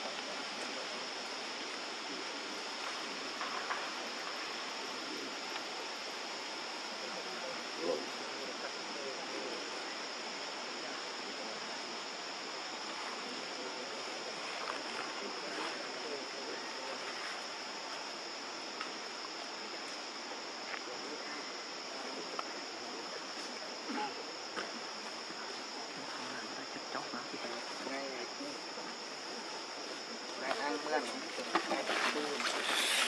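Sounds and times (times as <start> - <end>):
constant hiss: 0.0 - 33.0
high insect drone: 0.0 - 33.0.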